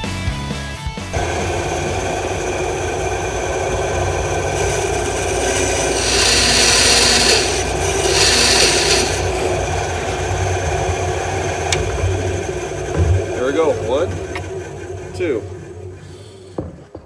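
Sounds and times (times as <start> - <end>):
bandsaw motor running: 1.1 - 16.8
saw blade cutting wood: 1.2 - 16.8.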